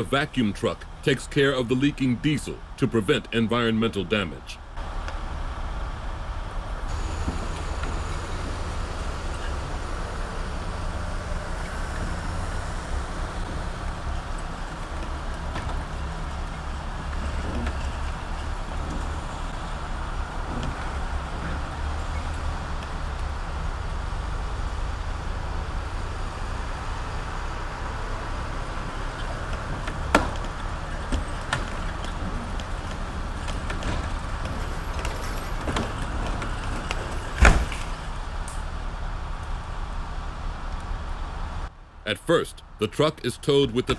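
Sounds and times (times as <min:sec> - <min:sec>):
truck diesel engine running: 0:00.0 - 0:41.7.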